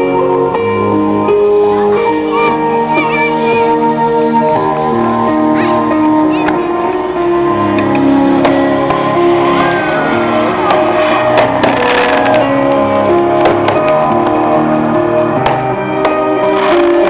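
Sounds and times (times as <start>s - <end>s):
loud music with held notes: 0.0s - 17.0s.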